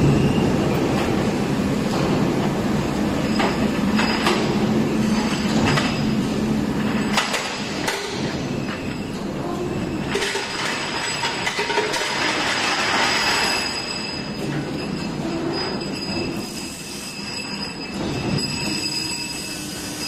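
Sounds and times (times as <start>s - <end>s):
metallic clanks and squeals: 3.2s - 9.2s, 9.8s - 20.0s.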